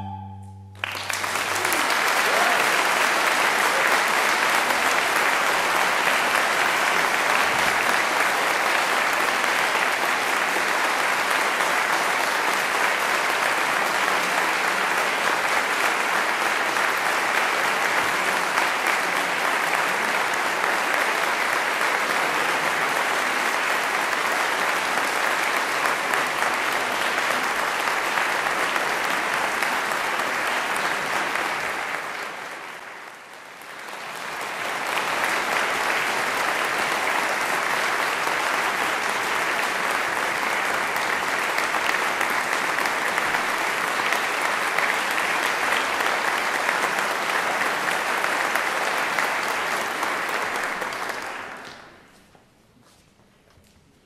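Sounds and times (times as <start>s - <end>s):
audience applauding: 0.8s - 52.1s.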